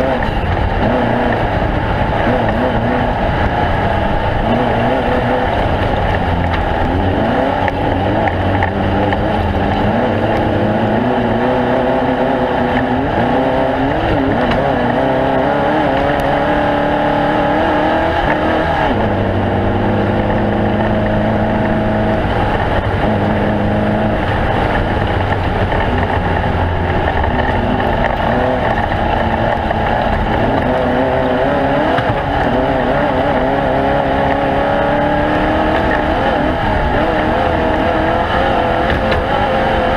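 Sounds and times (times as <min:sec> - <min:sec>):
off-road race engines revving: 0:00.0 - 0:39.9.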